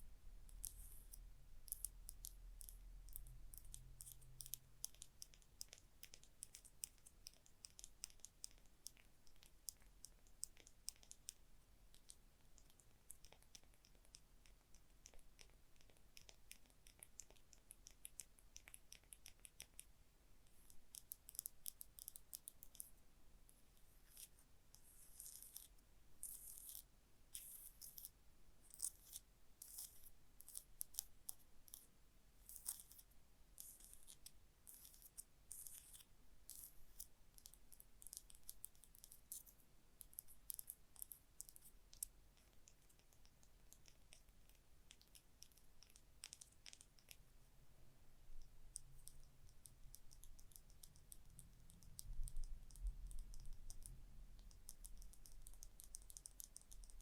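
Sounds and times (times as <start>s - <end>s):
light tapping on small objects: 0.4s - 47.2s, 48.3s - 57.0s.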